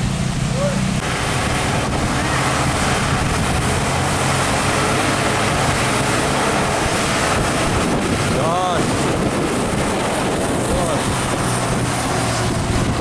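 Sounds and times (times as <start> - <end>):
diesel truck engine droning: 0.0 - 13.0
road noise: 0.0 - 13.0
wind on microphone: 0.0 - 13.0.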